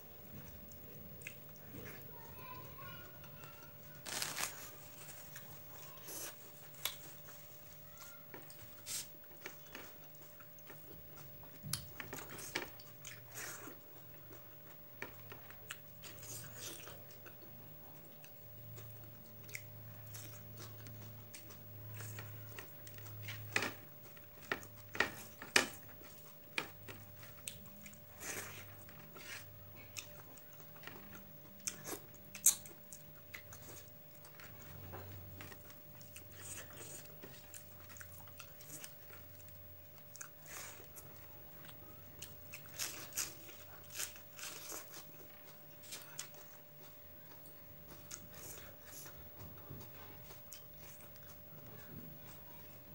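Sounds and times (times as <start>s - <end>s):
faint steady hum: 0.0s - 52.9s
chewing and mouth smacks: 8.6s - 52.0s.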